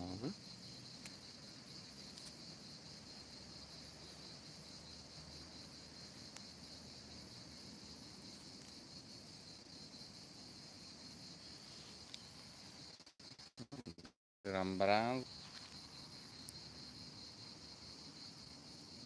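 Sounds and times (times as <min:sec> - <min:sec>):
high-pitched insect chorus: 0:00.0 - 0:13.8, 0:14.5 - 0:19.0.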